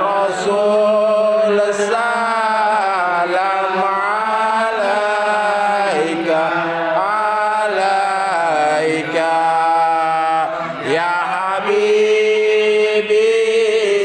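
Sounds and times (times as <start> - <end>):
men chanting devotional praise: 0.0 - 14.0.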